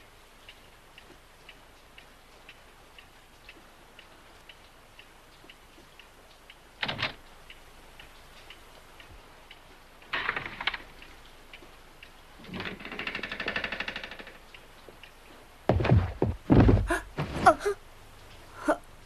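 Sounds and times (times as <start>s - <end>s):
clock ticking: 0.0s - 19.0s.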